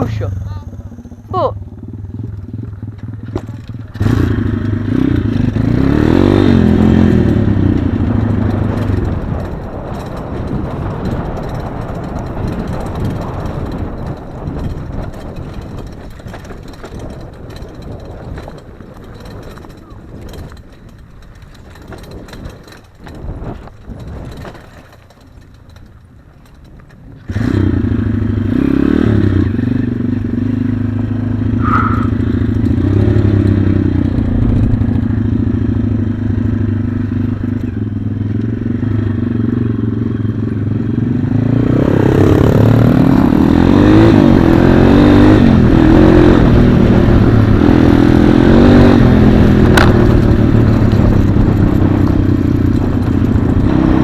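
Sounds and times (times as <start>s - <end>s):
pit bike engine revving: 0.0s - 20.6s, 27.2s - 54.0s.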